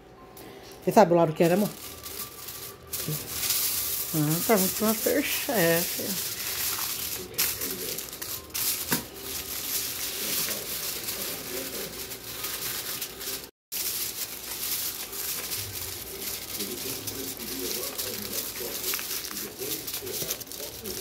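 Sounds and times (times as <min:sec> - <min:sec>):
aluminium foil crinkling: 0:00.6 - 0:21.0.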